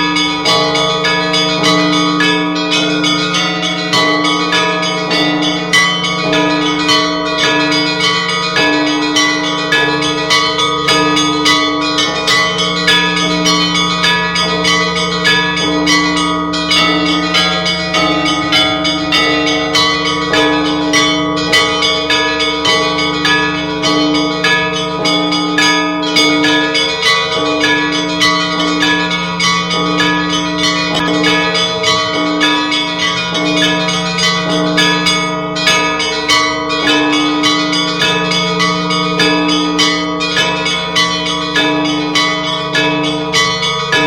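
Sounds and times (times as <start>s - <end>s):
low bells humming: 0.0s - 44.0s
small church bells pealing: 0.0s - 44.0s.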